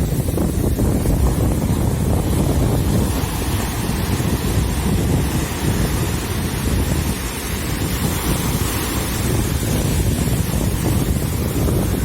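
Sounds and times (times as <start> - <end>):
ocean surf washing: 0.0 - 12.0
wind buffeting microphone: 0.0 - 12.0.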